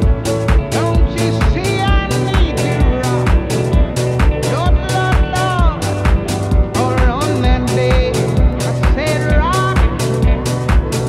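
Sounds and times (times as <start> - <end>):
upbeat dance music: 0.0 - 11.0.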